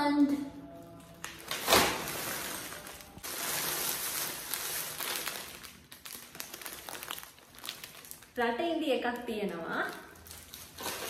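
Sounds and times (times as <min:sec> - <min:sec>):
plastic packaging rustling: 0:00.8 - 0:11.0.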